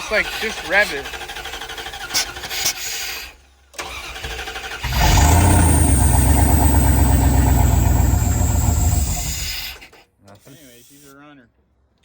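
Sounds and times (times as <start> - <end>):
engine starting and running: 0.0 - 10.0.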